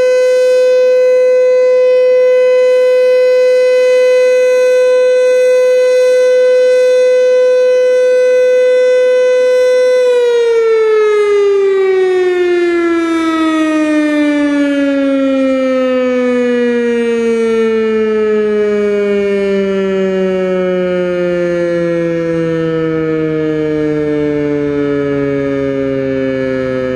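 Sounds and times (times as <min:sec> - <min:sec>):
warning siren winding down: 0:00.0 - 0:26.9.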